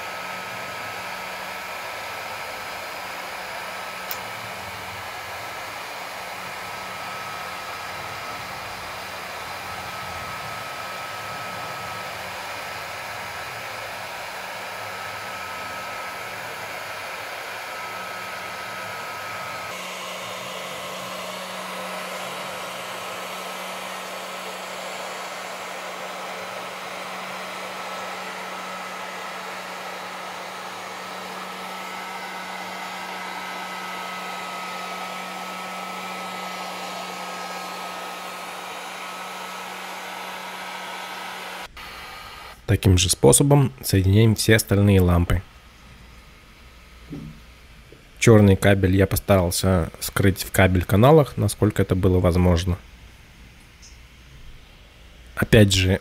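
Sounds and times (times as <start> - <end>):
heat gun fan humming: 0.0 - 56.0.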